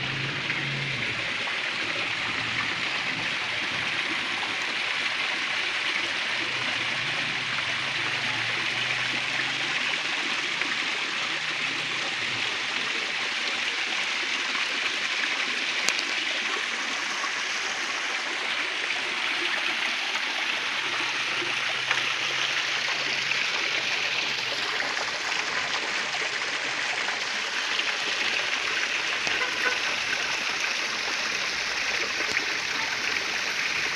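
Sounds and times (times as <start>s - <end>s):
waterfall splashing into a pool: 0.0s - 33.9s.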